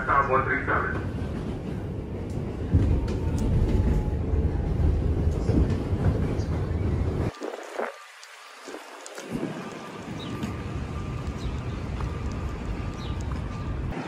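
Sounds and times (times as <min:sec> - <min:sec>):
subway train rumbling on track: 0:00.0 - 0:14.0.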